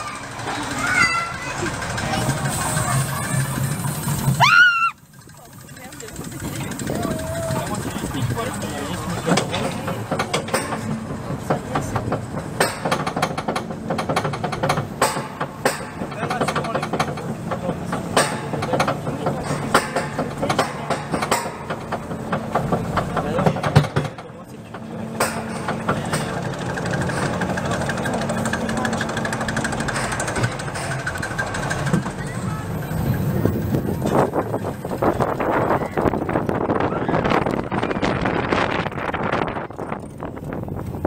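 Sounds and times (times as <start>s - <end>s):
roller coaster lift clacking: 0.0s - 41.0s
rumble of roller coaster cars: 0.0s - 41.0s.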